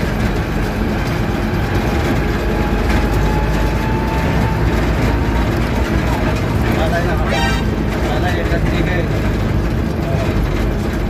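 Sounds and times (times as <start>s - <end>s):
truck engine rumble from inside cab: 0.0s - 11.0s.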